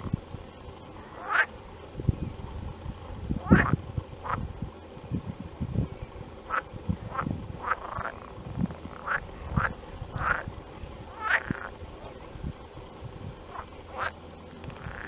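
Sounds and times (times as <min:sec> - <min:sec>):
frogs croaking: 0:00.0 - 0:04.9, 0:05.8 - 0:15.0.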